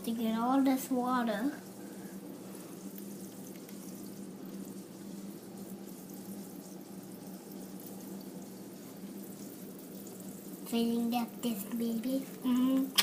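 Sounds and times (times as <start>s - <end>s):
refrigerator low hum: 0.0s - 13.0s
water running into a jug: 0.0s - 13.0s.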